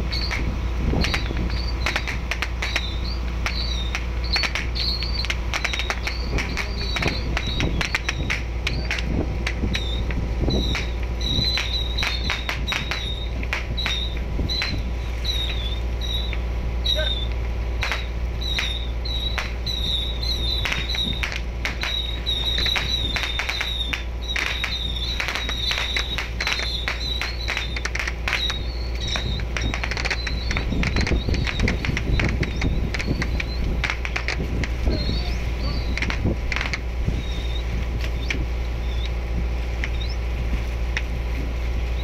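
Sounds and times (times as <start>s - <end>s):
boat engine drone: 0.0s - 42.0s
wind and water noise: 0.0s - 42.0s
sharp clicks: 0.2s - 14.8s, 17.3s - 39.2s.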